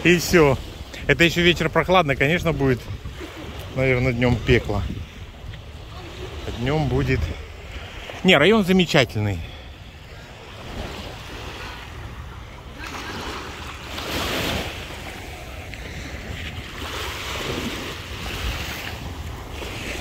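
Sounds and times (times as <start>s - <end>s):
wind rumbling on microphone: 0.0s - 8.3s, 9.8s - 20.0s
waves washing onto sandy beach: 0.0s - 20.0s.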